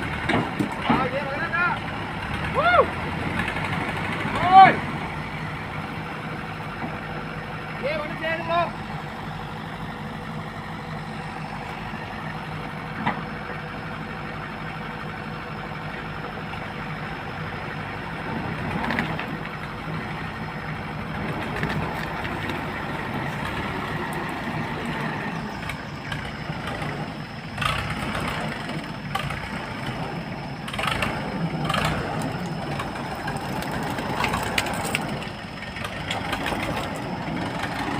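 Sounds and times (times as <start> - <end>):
engine idling: 0.0 - 37.9.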